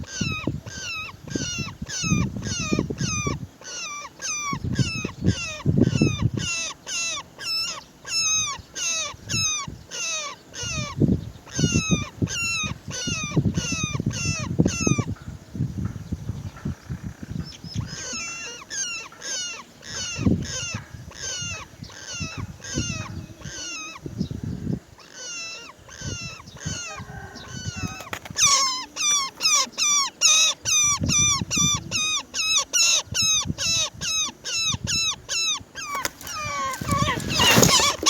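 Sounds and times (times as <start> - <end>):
birds calling: 0.0 - 38.0.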